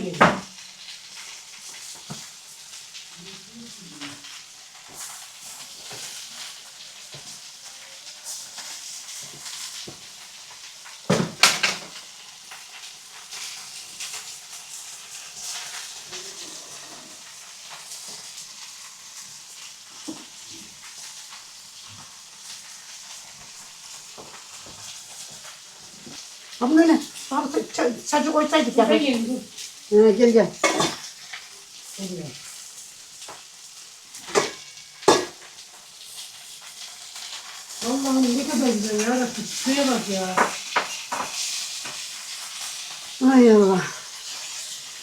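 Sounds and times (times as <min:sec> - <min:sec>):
meat sizzling: 0:00.0 - 0:45.0.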